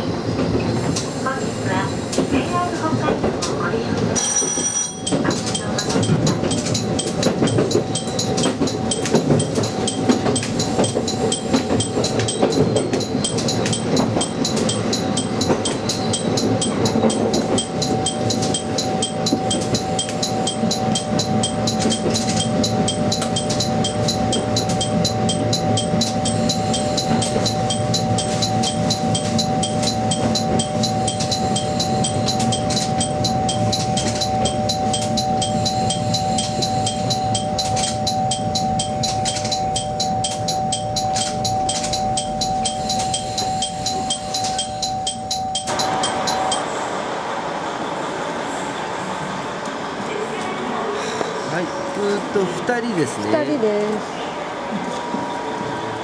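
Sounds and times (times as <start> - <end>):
railcar wheel rumble: 0.0 - 56.0.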